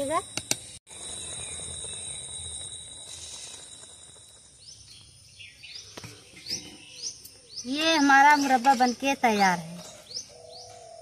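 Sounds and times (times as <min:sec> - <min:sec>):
birds chirping: 0:00.0 - 0:11.0
crickets trilling: 0:00.0 - 0:11.0.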